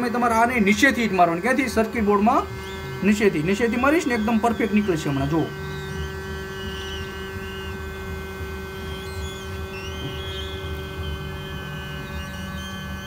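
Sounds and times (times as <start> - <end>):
electrical hum: 0.0 - 13.0
hot-air station blowing: 0.0 - 13.0.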